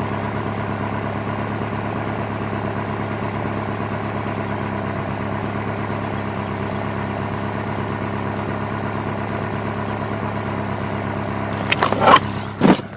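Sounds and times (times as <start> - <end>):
misfiring car engine idling: 0.0 - 12.9.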